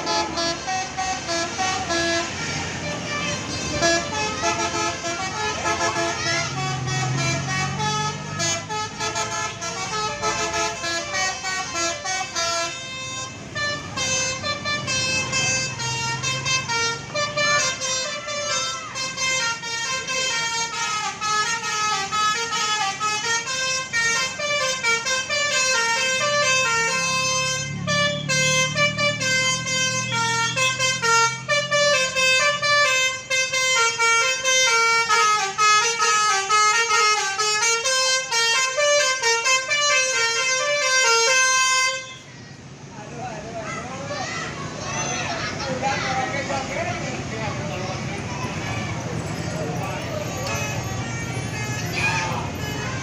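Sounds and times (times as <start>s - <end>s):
bus horn playing a tune: 0.0s - 42.4s, 45.3s - 53.0s
bus engine running: 0.0s - 53.0s.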